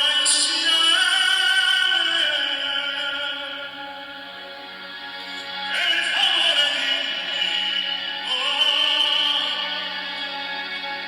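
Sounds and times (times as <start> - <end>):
man singing operatically: 0.0 - 4.1, 5.7 - 10.5.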